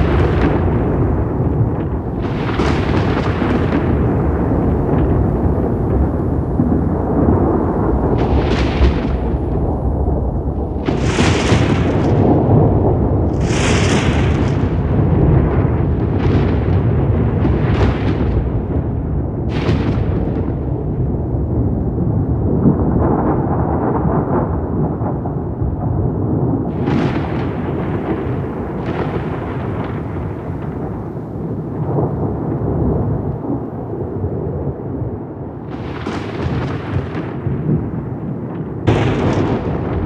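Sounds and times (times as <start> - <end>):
rolling thunder rumble: 0.0 - 40.0
thunder cracks: 0.0 - 40.0.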